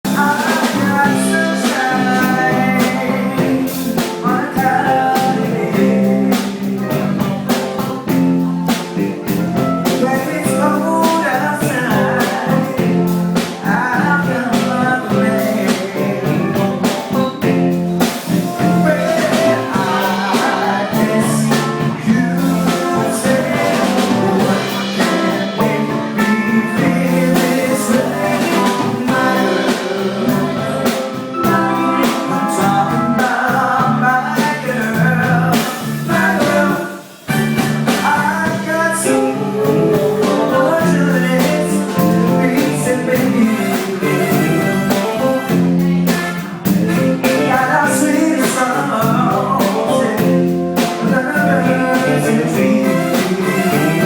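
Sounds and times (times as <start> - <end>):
drum kit steady beat: 0.0 - 54.0
guitar: 0.0 - 54.0
person singing: 0.1 - 54.0.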